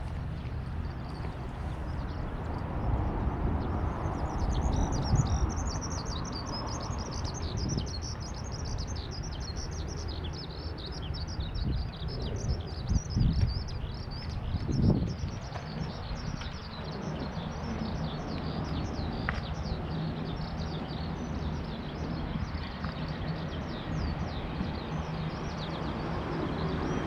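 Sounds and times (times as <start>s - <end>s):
steady low rumble: 0.0s - 27.0s
small birds chirping: 0.4s - 27.0s.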